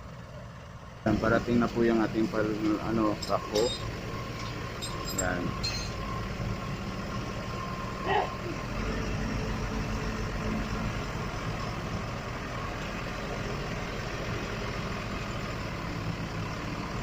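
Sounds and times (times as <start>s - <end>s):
backhoe engine droning: 0.0s - 17.0s.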